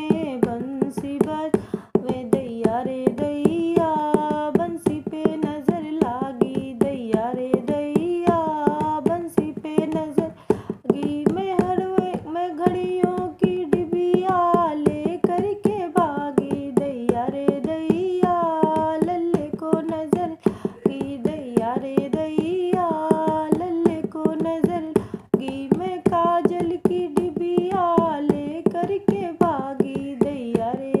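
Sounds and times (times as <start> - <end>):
woman singing folk song: 0.0 - 31.0.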